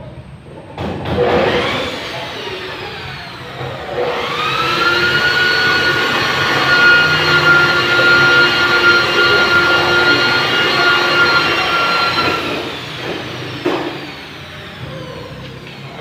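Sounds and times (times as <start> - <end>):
power tool motor whine: 1.2 - 16.0.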